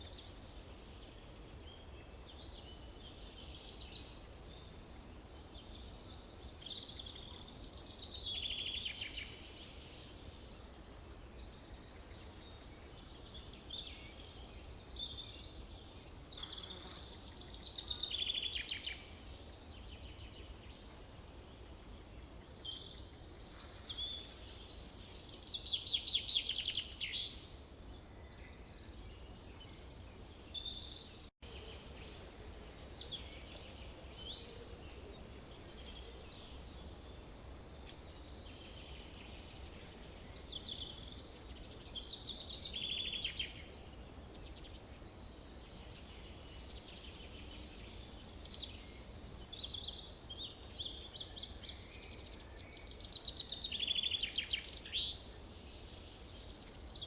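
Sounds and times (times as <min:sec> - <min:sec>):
low background hiss: 0:00.0 - 0:57.0
songbirds singing and chirping: 0:00.0 - 0:57.0.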